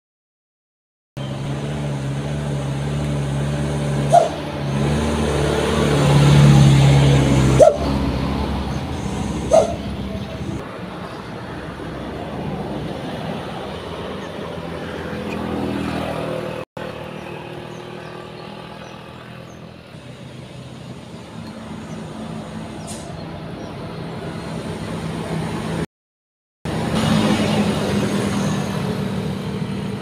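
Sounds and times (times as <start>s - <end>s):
motorbike engines passing: 1.2s - 25.9s, 26.7s - 30.0s
truck engine climbing: 1.2s - 25.9s, 26.7s - 30.0s.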